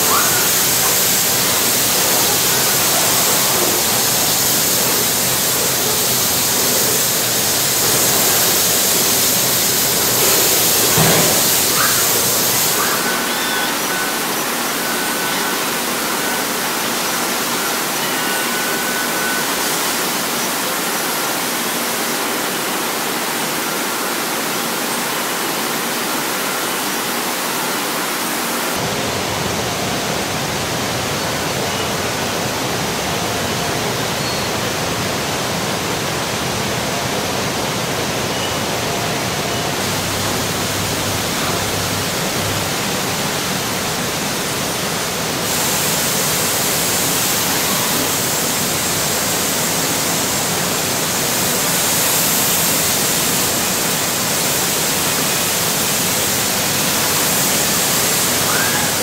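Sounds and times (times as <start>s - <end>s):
paint spray booth rushing hiss: 0.0s - 59.0s.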